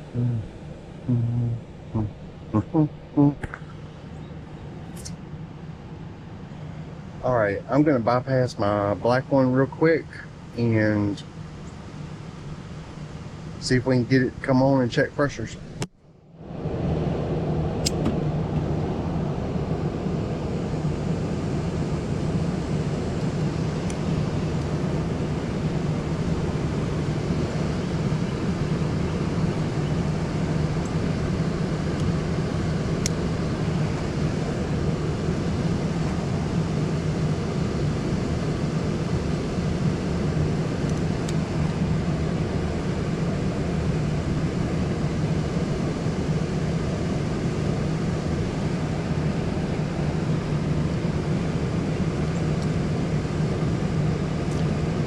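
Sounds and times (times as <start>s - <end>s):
heat pump humming: 0.0s - 55.0s.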